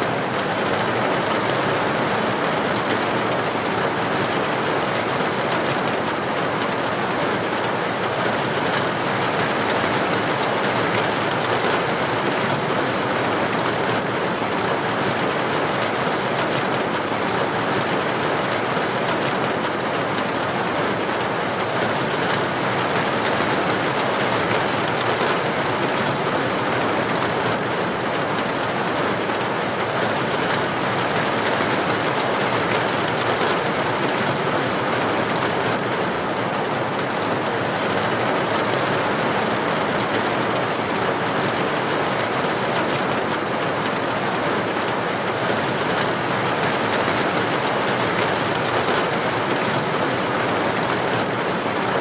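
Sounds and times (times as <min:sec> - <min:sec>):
heavy rain on a street: 0:00.0 - 0:52.0.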